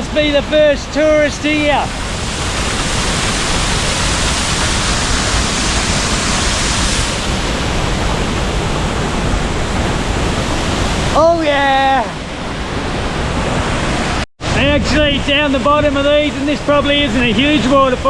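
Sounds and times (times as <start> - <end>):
waterfall rushing: 0.3 - 18.0.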